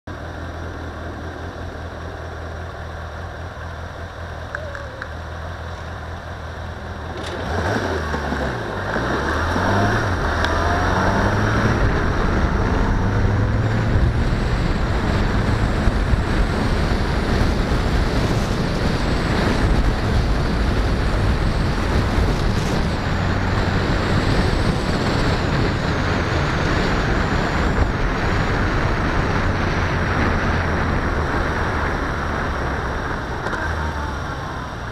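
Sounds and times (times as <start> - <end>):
car engine accelerating: 1.7 - 34.9.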